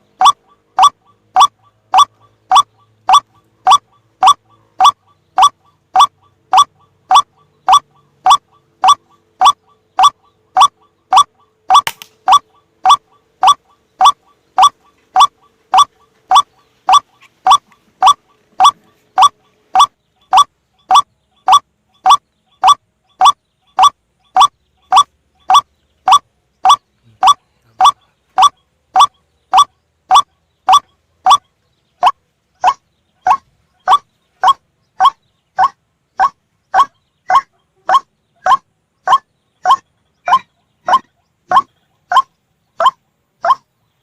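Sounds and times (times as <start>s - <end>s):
bird call repeated clipped notes: 0.0s - 43.7s.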